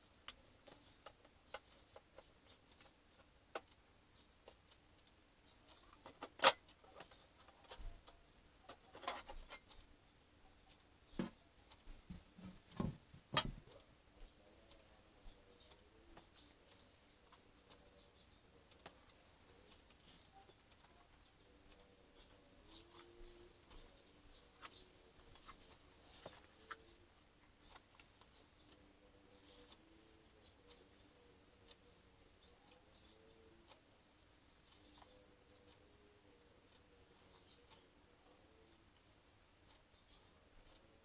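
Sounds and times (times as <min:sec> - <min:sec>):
small clicks and taps: 0:00.0 - 0:36.1.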